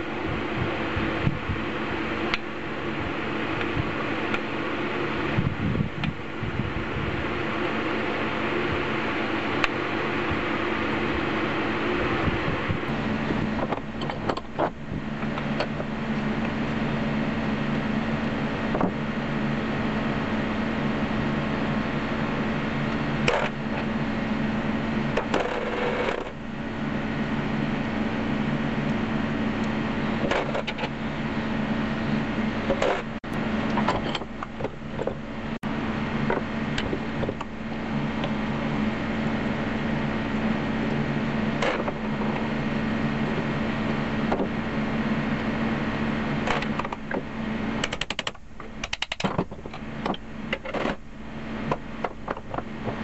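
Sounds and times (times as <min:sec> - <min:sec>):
background hum and hiss: 0:00.0 - 0:53.0.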